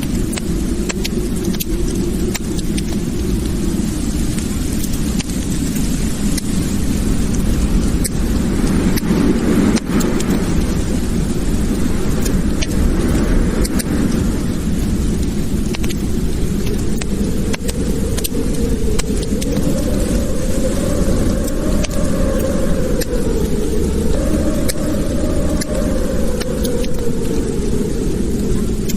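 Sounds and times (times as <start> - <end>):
fire burning with low roar: 0.0 - 28.9
fire crackling and popping: 0.0 - 28.9.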